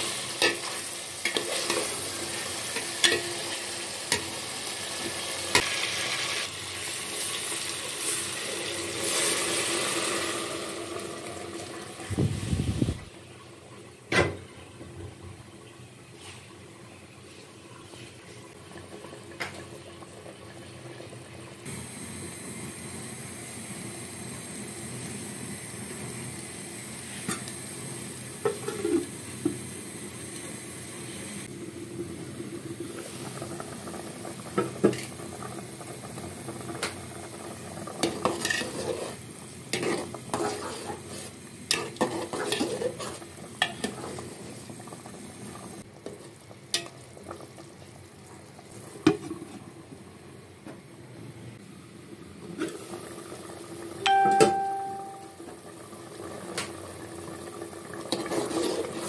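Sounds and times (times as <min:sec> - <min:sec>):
sauce sizzling: 0:00.0 - 0:12.1, 0:21.6 - 0:50.4, 0:51.6 - 0:59.0.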